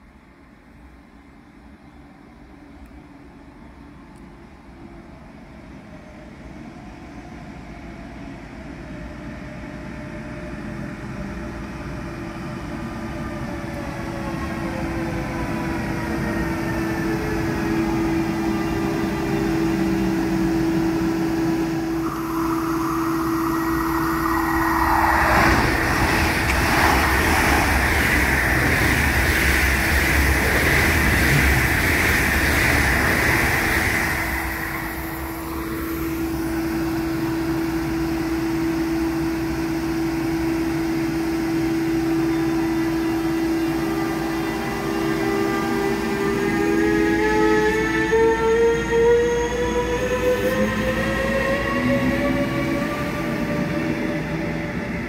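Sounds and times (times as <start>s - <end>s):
rumble of train wheels: 0.0s - 55.0s
electric train traction whine: 9.4s - 55.0s.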